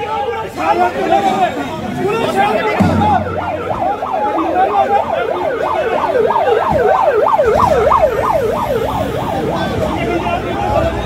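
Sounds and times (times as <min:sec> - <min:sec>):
emergency siren yelping: 0:01.9 - 0:11.0.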